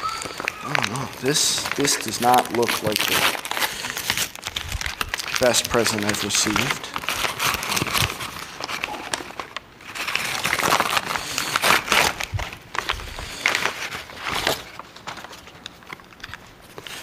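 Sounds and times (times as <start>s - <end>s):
wrapping paper crumpling: 0.0s - 17.0s.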